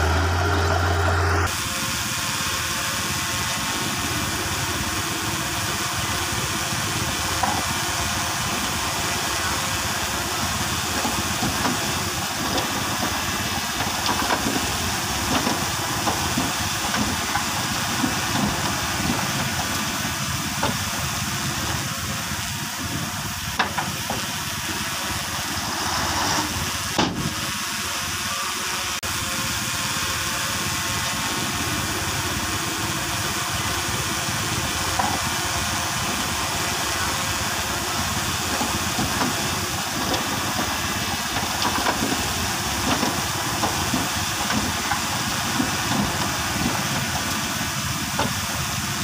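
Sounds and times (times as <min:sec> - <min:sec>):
bulldozer and truck engines running: 0:00.0 - 0:49.0
even hiss: 0:00.0 - 0:49.0.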